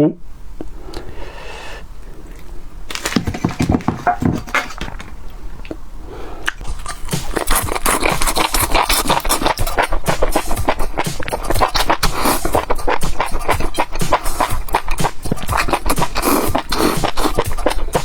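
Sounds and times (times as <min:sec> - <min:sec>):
crunching and chewing: 0:02.0 - 0:18.0.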